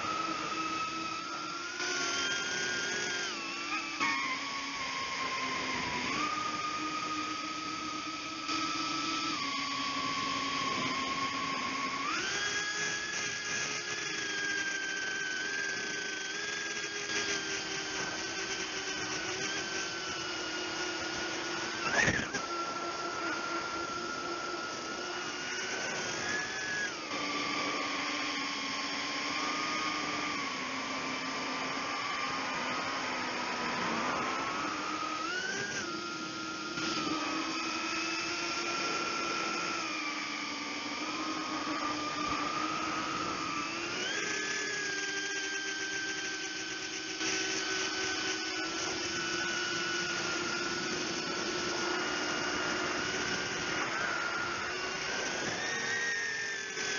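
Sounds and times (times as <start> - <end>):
quadcopter motors whining: 0.0 - 56.9.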